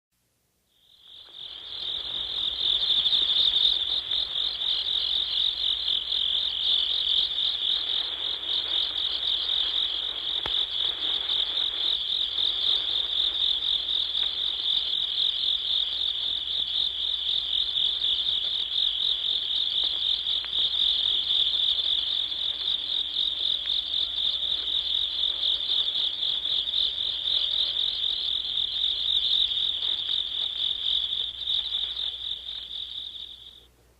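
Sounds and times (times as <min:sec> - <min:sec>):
insects trilling: 0:00.7 - 0:33.7.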